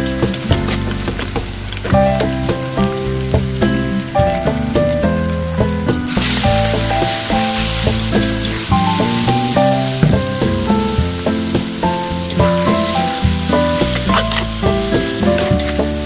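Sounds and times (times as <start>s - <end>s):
background music: 0.0s - 16.0s
beef sizzling in a wok: 0.0s - 16.0s.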